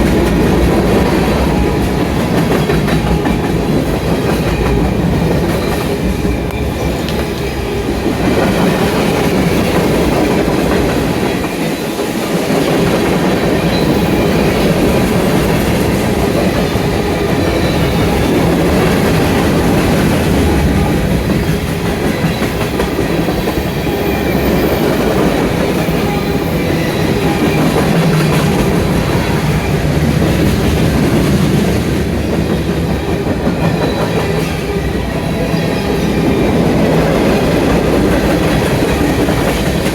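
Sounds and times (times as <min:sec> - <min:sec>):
train wheels clattering over rail joints: 0:00.0 - 0:34.8.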